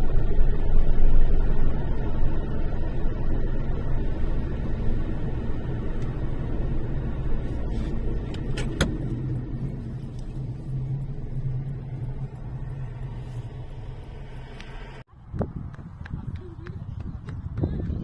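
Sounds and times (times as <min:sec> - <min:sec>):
motor vehicle engine rumble: 0:00.0 - 0:18.0.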